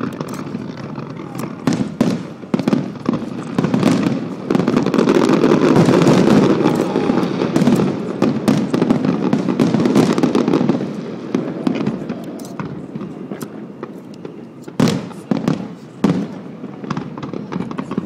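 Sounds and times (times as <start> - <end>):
fireworks booming and crackling: 0.0 - 18.0.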